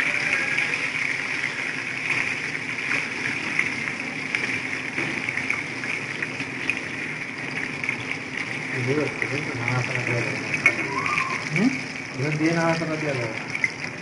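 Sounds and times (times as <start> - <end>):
deep-frying sizzle with pops: 0.0 - 14.0.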